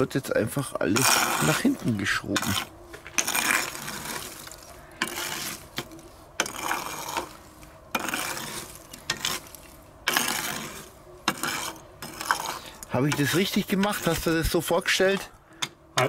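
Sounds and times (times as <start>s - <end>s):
metal rake scraping embers: 0.0s - 16.0s.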